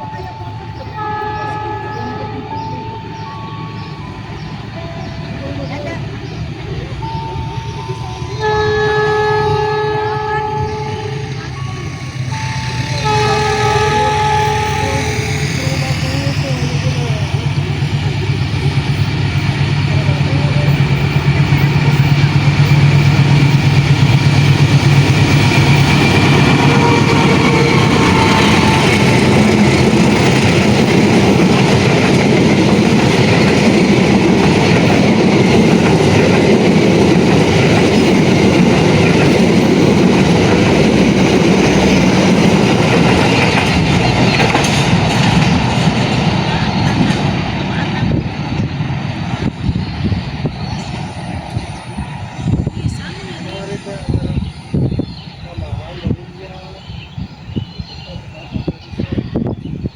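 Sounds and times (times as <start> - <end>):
locomotive engine drone: 0.0 - 59.5
train carriages rumbling on rails: 0.0 - 59.9.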